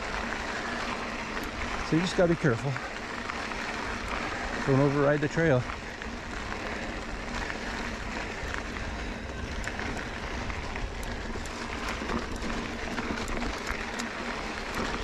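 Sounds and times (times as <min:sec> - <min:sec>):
bike small clicks and ticks: 0:00.0 - 0:15.0
bike tyres on gravel: 0:00.0 - 0:15.0.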